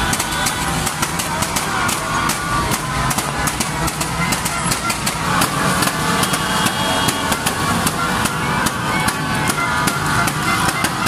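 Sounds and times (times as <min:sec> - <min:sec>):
crowd: 0:00.0 - 0:11.0
held horn-like tones: 0:00.0 - 0:11.0
music: 0:00.0 - 0:11.0
traffic: 0:00.0 - 0:11.0.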